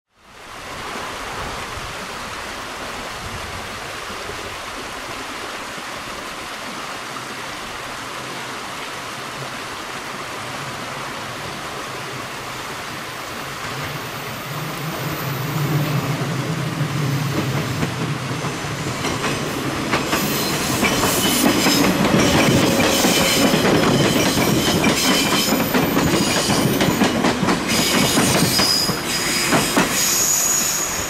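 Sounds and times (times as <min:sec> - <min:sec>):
running water rushing: 0:00.1 - 0:31.0.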